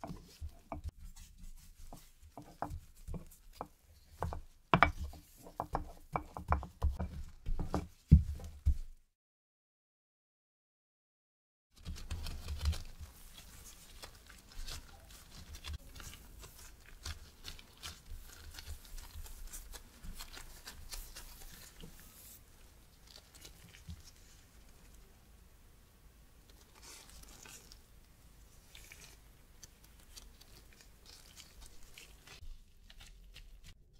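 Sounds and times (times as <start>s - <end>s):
plastic gloves rustling: 0.0s - 9.0s, 11.8s - 25.3s, 26.4s - 33.9s.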